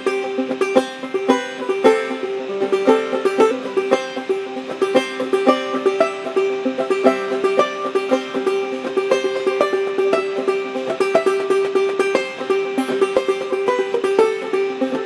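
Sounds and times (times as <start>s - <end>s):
banjo played clawhammer style: 0.0s - 15.0s.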